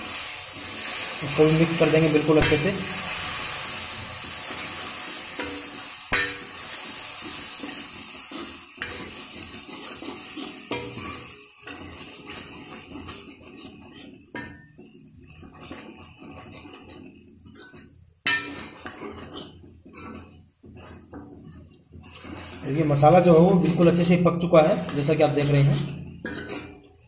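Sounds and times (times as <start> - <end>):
frying sizzle: 0.0 - 27.0
ladle stirring and scraping pan: 0.0 - 27.0.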